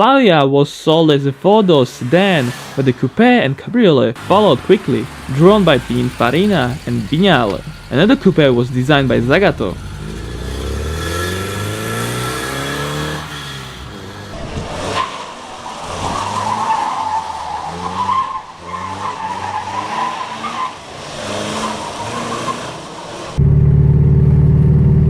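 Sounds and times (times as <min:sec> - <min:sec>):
car engine revving: 0:01.2 - 0:25.0
tyres squealing: 0:01.3 - 0:23.4.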